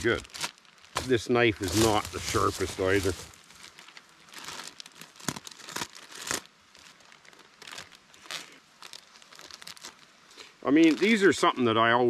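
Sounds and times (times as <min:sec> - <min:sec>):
plastic bag crinkling and tearing: 0:00.0 - 0:11.4.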